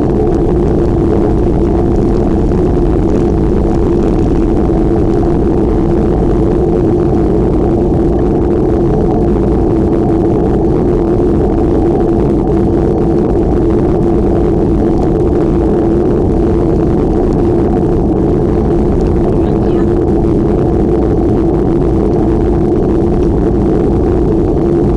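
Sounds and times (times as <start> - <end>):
wind noise on microphone: 0.0 - 24.9.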